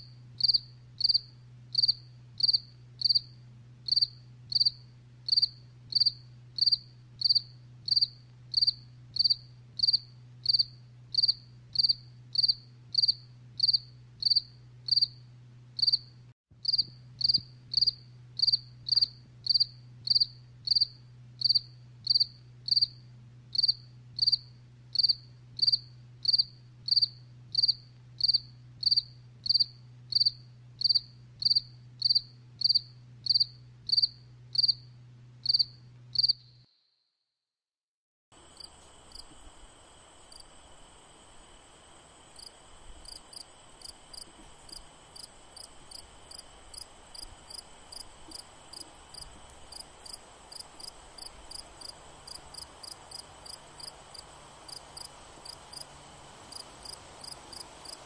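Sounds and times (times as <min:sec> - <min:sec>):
cricket chirping: 0:00.0 - 0:15.2, 0:15.8 - 0:37.0, 0:38.4 - 0:58.0
faint low hum: 0:00.0 - 0:36.6, 0:38.4 - 0:58.0.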